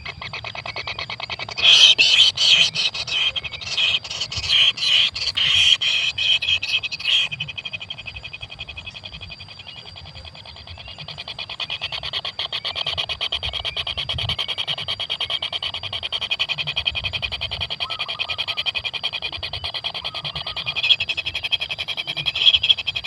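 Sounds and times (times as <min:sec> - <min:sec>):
nestlings begging churr: 0:00.0 - 0:23.0.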